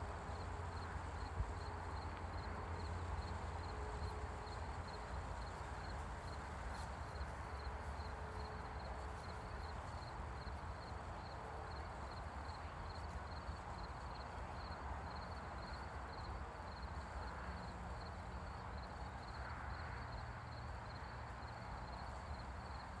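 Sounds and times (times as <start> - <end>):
crickets chirping: 0.2 - 23.0.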